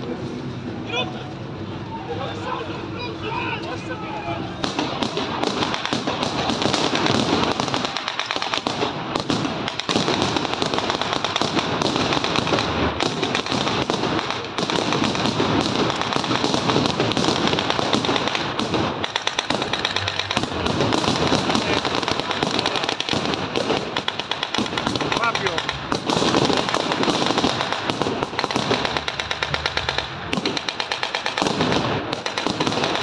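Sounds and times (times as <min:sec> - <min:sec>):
rapid blank gunfire: 0:04.6 - 0:33.0.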